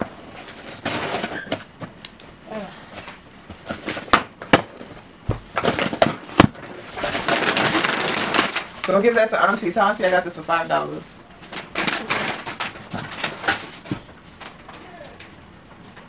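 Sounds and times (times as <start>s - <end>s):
plastic and cardboard rustling: 0.0s - 16.0s.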